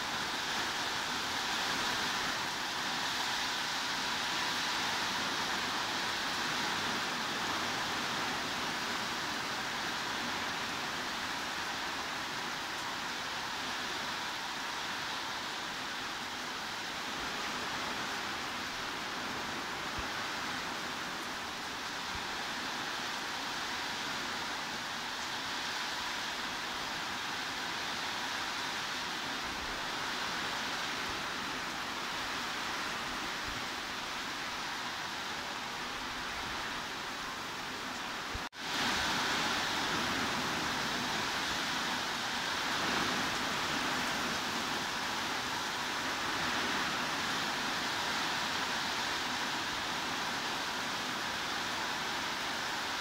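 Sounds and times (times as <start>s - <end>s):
heavy rain hissing: 0.0s - 53.0s.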